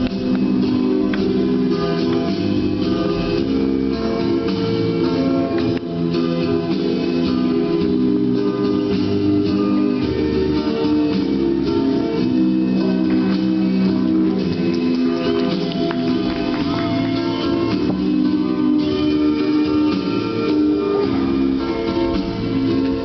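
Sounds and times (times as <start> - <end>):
percussion beat: 0.0 - 23.0.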